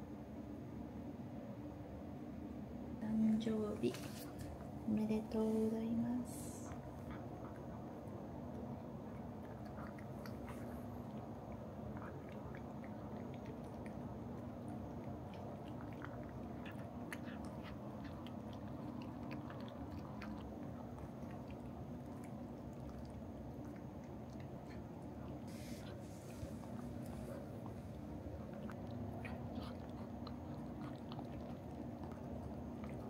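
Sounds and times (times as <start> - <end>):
steady low hum: 0.0 - 33.0
cats licking and chewing: 6.3 - 33.0.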